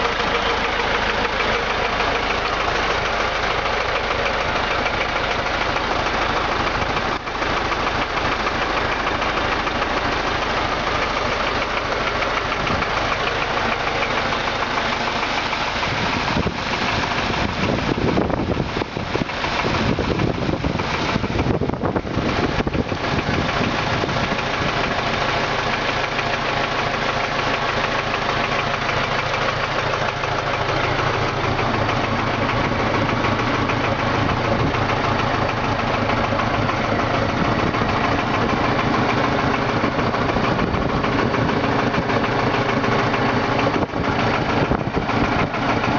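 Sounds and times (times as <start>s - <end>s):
diesel engine idling and revving: 0.0s - 45.9s
engine knocking: 0.0s - 45.9s.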